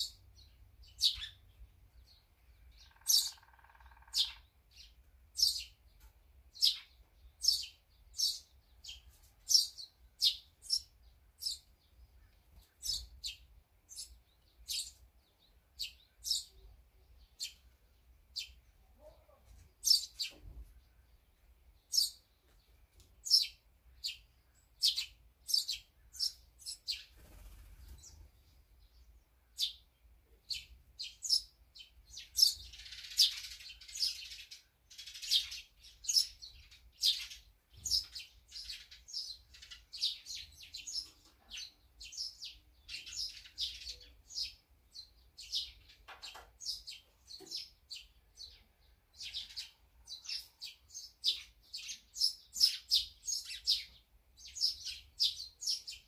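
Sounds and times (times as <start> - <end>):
small songbirds chirping: 0.0 - 56.0.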